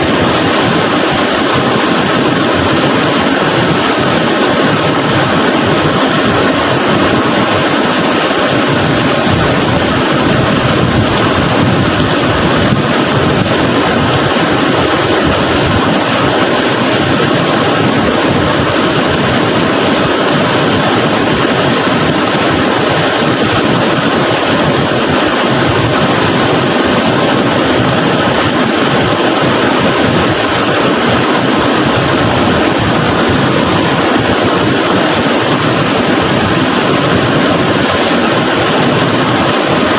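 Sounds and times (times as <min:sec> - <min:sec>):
floodwater rushing in a river: 0:00.0 - 0:39.9.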